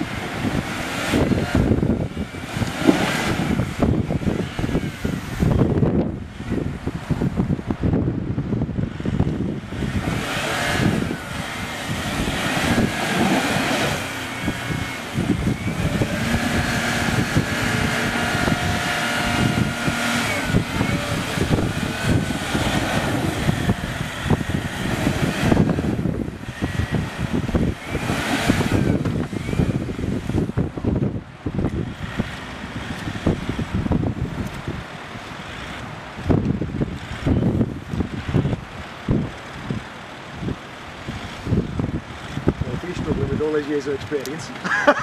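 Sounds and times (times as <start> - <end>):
car engine running under load: 0.0 - 45.0
tyres churning through mud: 0.0 - 45.0.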